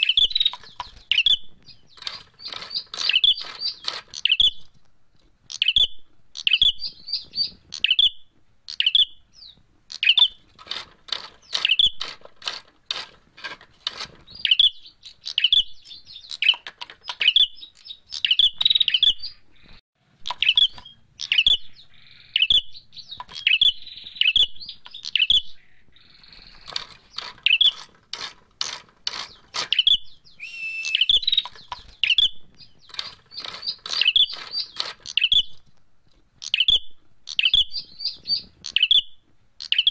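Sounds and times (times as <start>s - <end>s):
bird chirping and clicking: 0.0s - 39.9s.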